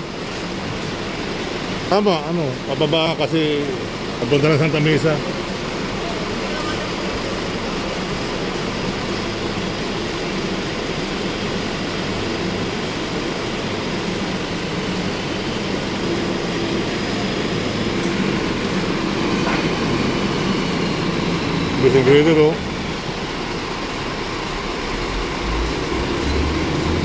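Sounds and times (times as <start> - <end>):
traffic noise: 0.0 - 27.0
vehicle engine hum: 0.0 - 27.0.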